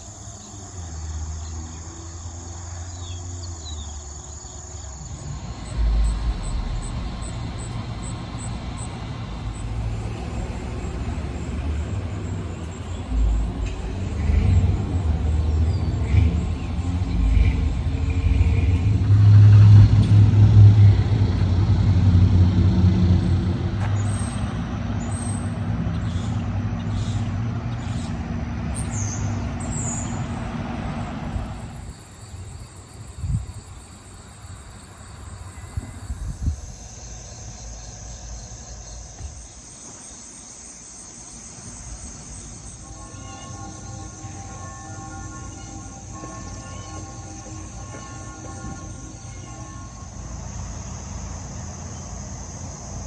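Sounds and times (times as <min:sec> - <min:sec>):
steady high-pitched hum: 0:00.0 - 0:53.0
vehicle engine running: 0:00.0 - 0:53.0.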